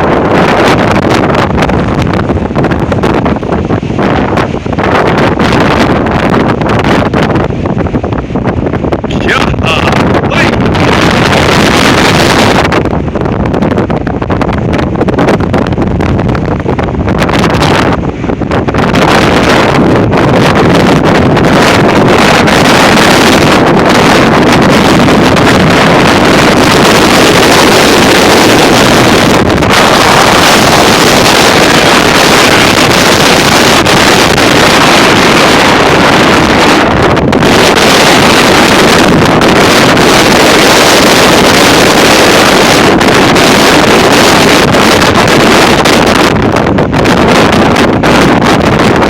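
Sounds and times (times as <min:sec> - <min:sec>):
strong wind roaring: 0:00.0 - 0:49.0.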